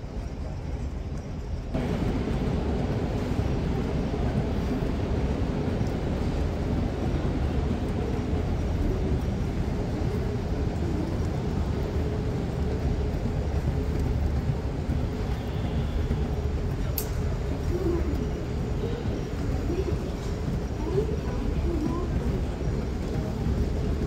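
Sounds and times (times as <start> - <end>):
moving walkway rumble: 0.0 - 24.0.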